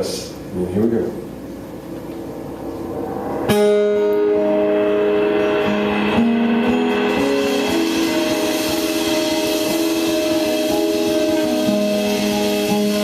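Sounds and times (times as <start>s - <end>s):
guitar playing: 2.2s - 13.0s.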